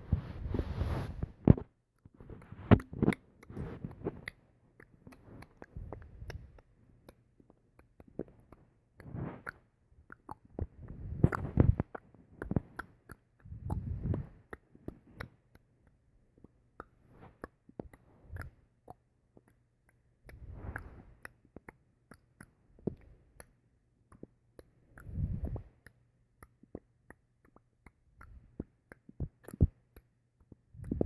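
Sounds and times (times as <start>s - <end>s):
soft noisy patches: 0.0s - 31.0s.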